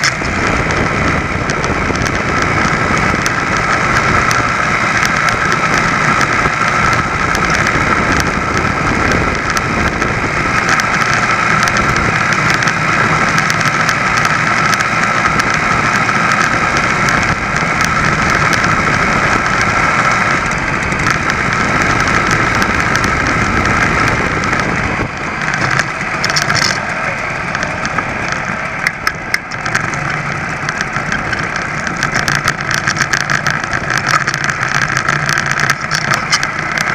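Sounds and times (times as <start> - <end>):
two-stroke moped engine running: 0.0 - 36.9.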